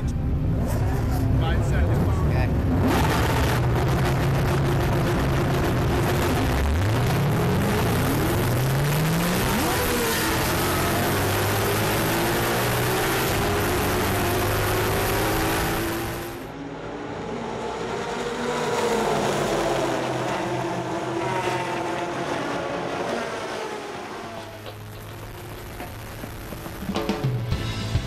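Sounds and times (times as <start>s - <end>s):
race cars passing by: 0.0s - 26.8s
race car engine accelerating: 0.5s - 26.8s.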